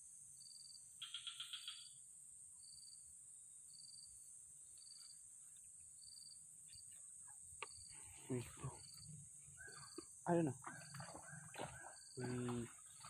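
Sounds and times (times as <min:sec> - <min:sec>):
insect chirps: 0:00.0 - 0:13.0
insect trill: 0:00.0 - 0:13.0
insects hissing: 0:00.0 - 0:13.0.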